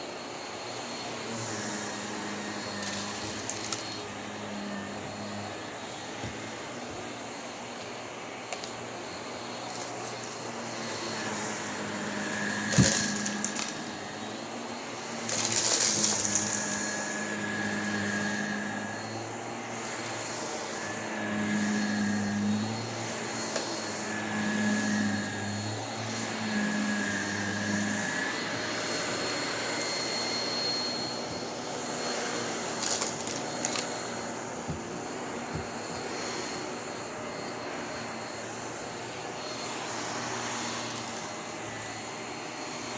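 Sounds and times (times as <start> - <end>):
upright vacuum cleaner running: 0.0 - 42.9.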